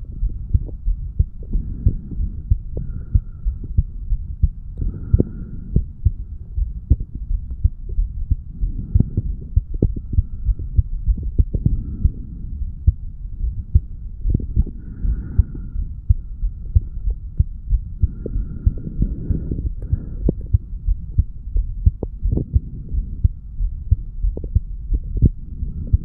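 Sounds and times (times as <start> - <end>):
constant low hum: 0.0 - 26.0
heartbeat thumps: 0.0 - 26.0.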